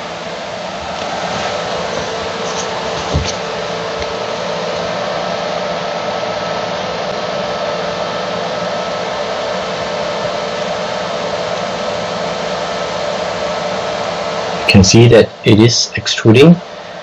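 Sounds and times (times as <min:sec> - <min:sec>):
faint motor tones: 0:00.0 - 0:17.0
three d printer fan whir: 0:00.0 - 0:17.0.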